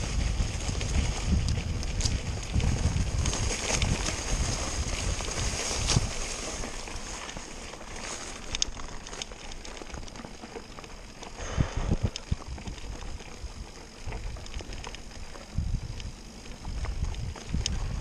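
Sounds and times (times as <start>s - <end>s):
bike clicks and rattles: 0.0s - 18.0s
bike tyres rolling on dirt: 0.0s - 18.0s
grass swishing against bike: 0.0s - 18.0s
wind rumbling on microphone: 0.0s - 18.0s.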